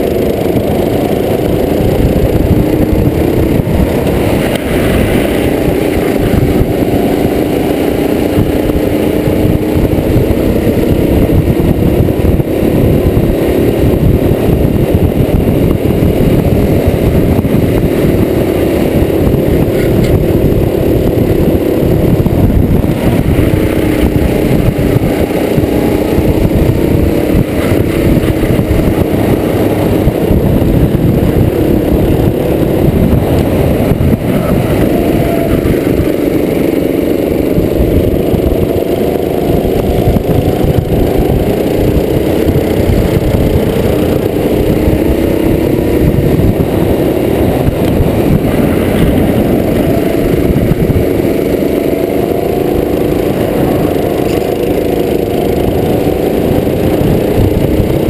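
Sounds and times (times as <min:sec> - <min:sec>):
go-kart engine running hard: 0:00.0 - 0:58.0
wind and road noise: 0:00.0 - 0:58.0.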